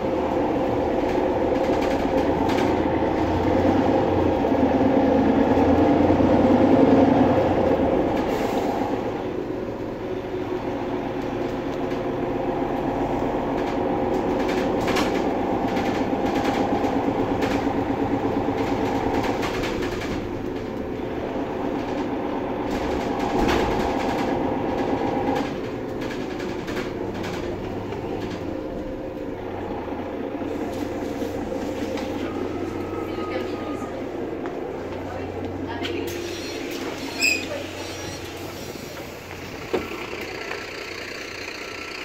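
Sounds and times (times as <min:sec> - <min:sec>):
bus engine running: 0:00.0 - 0:42.0
road noise: 0:00.0 - 0:42.0.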